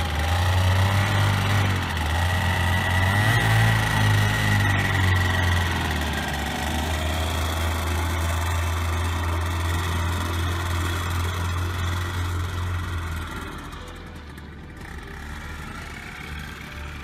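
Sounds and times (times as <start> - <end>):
engine and propeller drone: 0.0 - 17.0.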